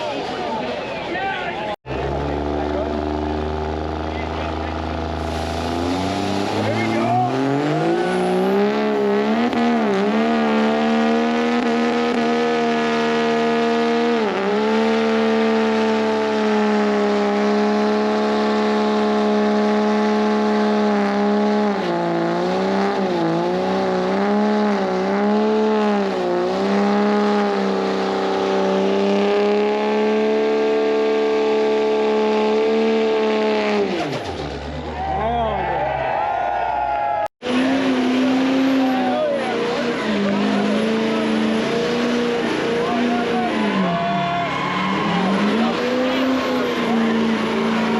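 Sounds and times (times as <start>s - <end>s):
truck engine revving high: 1.8s - 47.9s.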